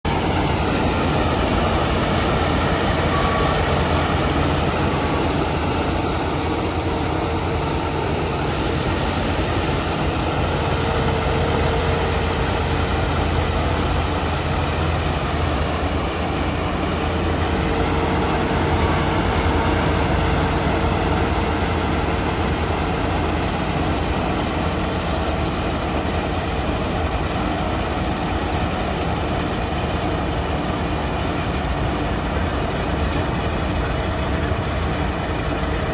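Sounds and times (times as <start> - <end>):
combine harvester engine running: 0.0 - 35.9.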